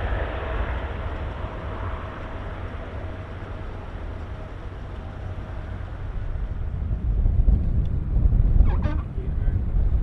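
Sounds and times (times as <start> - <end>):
jet engines at takeoff: 0.0 - 10.0.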